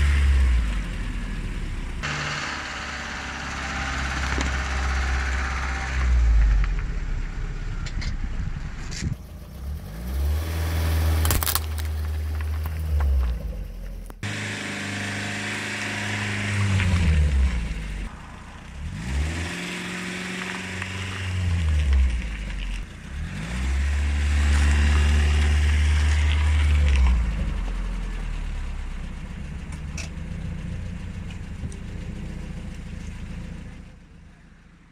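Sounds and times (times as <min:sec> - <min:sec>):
car engine revving lightly: 0:00.0 - 0:34.9.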